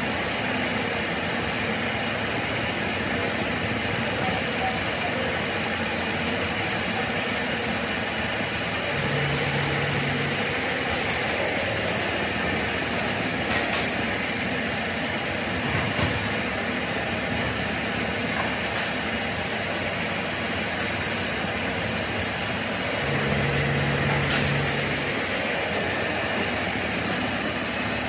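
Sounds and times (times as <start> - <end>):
metalworking machinery running: 0.0 - 28.0.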